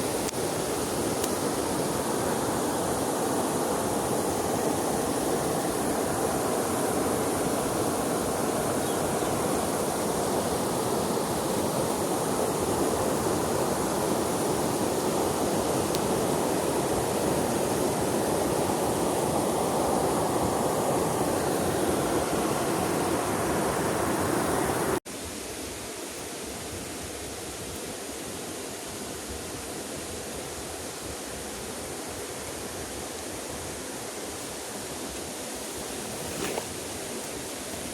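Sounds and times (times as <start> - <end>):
light stream flowing: 0.0 - 37.9
river water rushing: 0.0 - 37.9.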